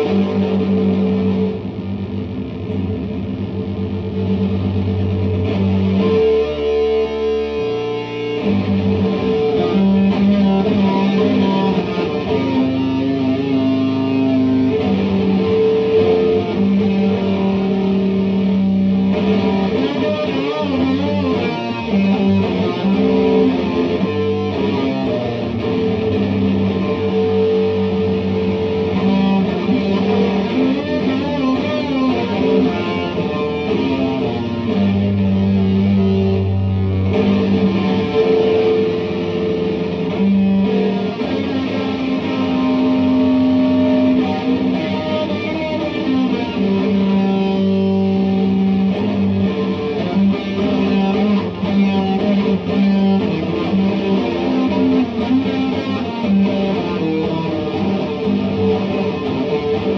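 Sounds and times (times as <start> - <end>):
low bass line: 0.0 - 55.2
electric guitar synth notes: 0.0 - 59.9.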